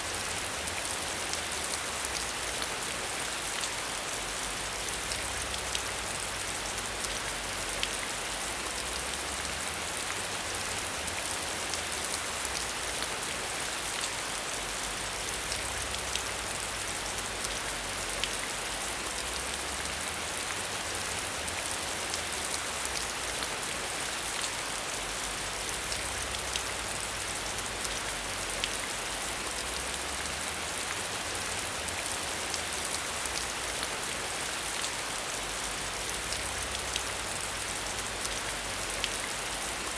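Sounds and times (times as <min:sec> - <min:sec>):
steady rain: 0:00.0 - 0:39.9
raindrops ticking on a surface: 0:00.1 - 0:39.9.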